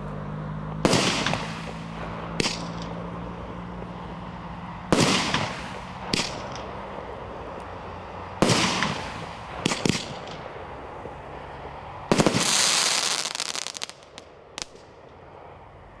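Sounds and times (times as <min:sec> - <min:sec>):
fireworks bursting and crackling: 0:00.8 - 0:04.1, 0:04.9 - 0:15.1.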